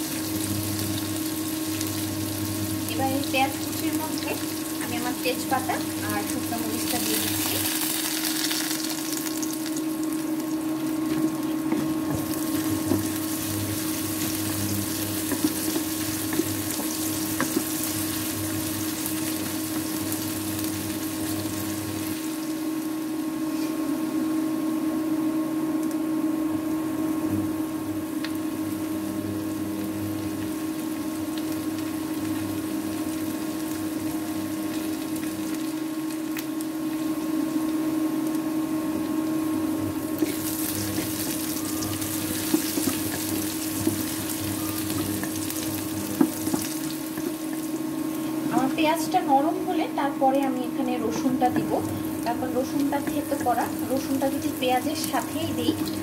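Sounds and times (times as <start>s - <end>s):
cooktop humming: 0.0s - 56.0s
lower hum: 0.0s - 56.0s
onions sizzling in hot oil: 0.0s - 56.0s.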